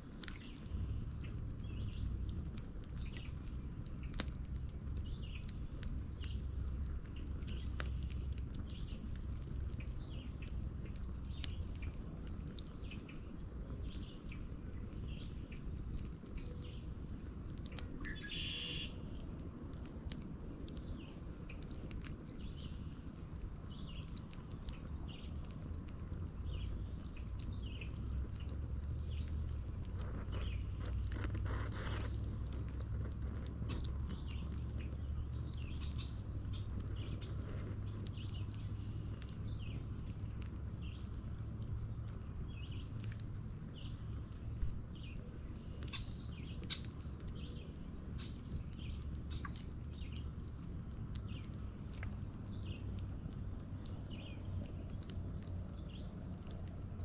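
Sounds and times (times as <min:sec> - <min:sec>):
low steady rumble: 0:00.0 - 0:57.0
wood fire crackling: 0:00.0 - 0:57.0
birds chirping: 0:00.2 - 0:02.3, 0:02.9 - 0:19.3, 0:26.2 - 0:30.8, 0:33.7 - 0:56.8.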